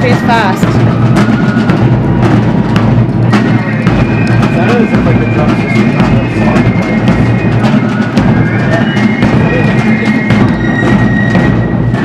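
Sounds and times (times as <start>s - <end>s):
high piping melody: 0.0s - 12.0s
snare and bass drums: 0.0s - 12.0s.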